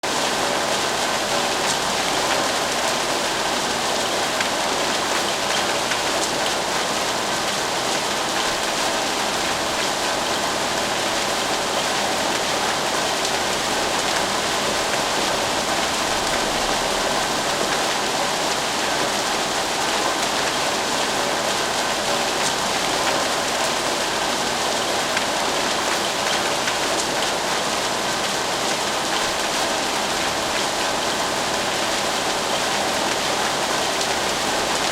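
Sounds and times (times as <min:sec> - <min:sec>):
dense rainfall hiss: 0:00.0 - 0:34.9.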